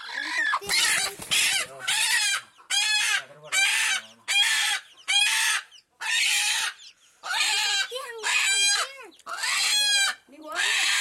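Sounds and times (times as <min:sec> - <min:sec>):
chicken calling harshly: 0:00.0 - 0:11.0.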